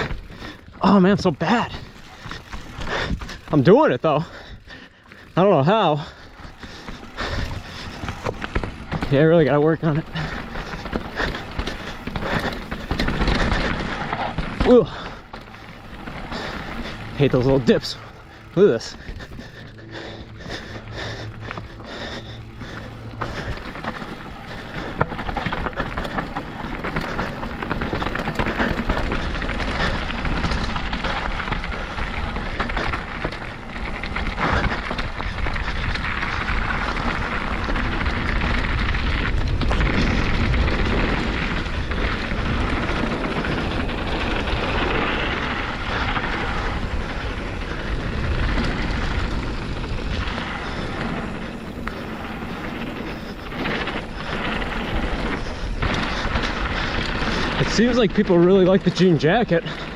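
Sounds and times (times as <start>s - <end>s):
bike rattling on bumps: 0.0s - 59.9s
bike tyres rolling on dirt: 0.0s - 59.9s.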